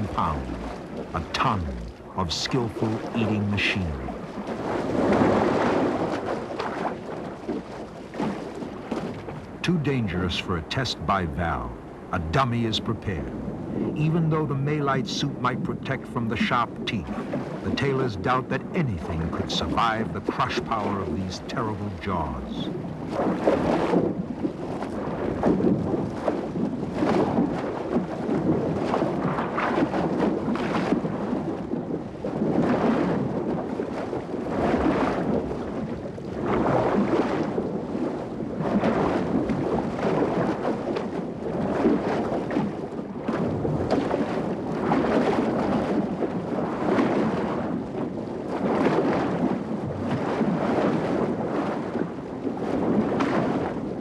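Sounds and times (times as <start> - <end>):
water splashing and churning: 0.0 - 54.0.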